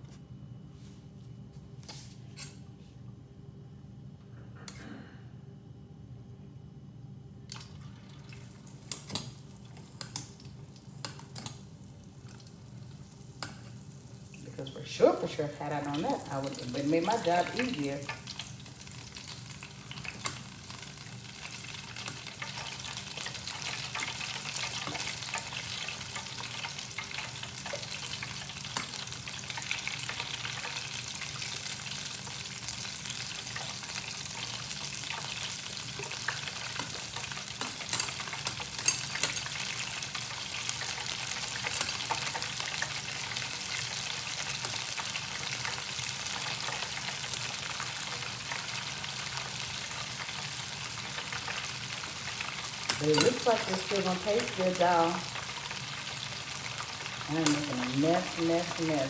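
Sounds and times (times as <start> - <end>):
shrimp deep-frying in hot oil: 7.8 - 59.0.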